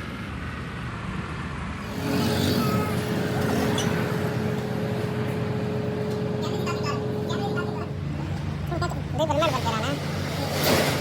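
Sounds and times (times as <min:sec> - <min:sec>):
steady whine: 0:01.8 - 0:11.0
truck engine running: 0:01.8 - 0:11.0.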